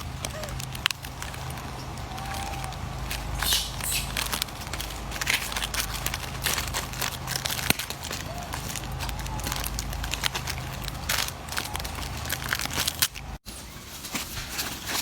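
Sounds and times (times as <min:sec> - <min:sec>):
steady low hum: 0:00.0 - 0:13.4
crinkling rustles: 0:00.0 - 0:15.0.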